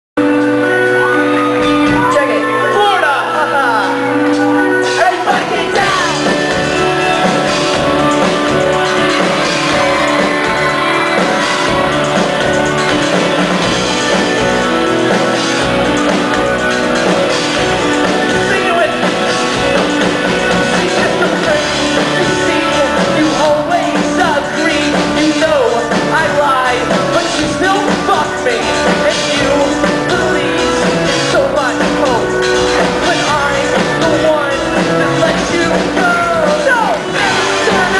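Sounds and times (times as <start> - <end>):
live rock band playing: 0.2 - 37.9
lead singer singing: 0.3 - 37.9.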